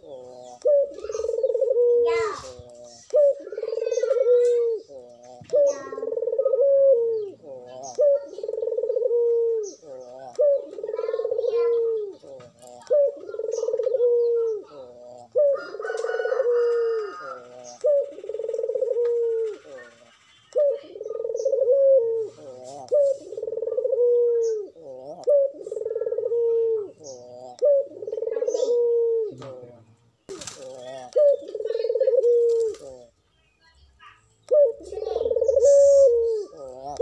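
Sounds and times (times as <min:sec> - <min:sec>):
dove cooing: 0:00.0 - 0:33.2, 0:34.4 - 0:37.0.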